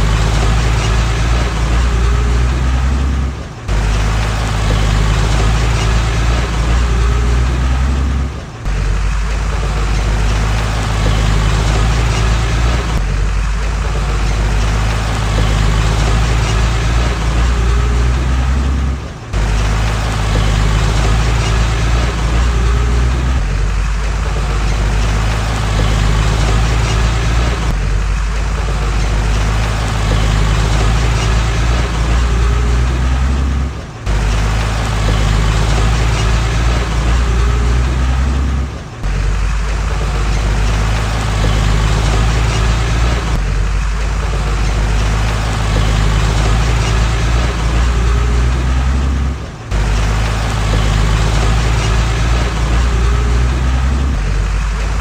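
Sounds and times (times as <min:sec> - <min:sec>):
diesel engine droning under load: 0:00.0 - 0:55.0.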